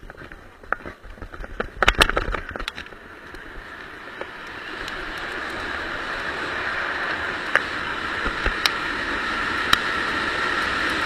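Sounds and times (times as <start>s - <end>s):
wheels sliding on wet asphalt: 0.0s - 11.0s.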